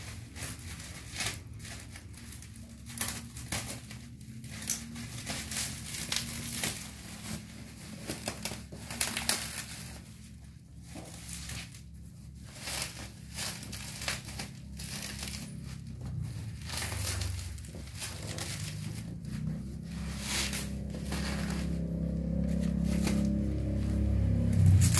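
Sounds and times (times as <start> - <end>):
bubble wrap crinkling: 0.0 - 24.9.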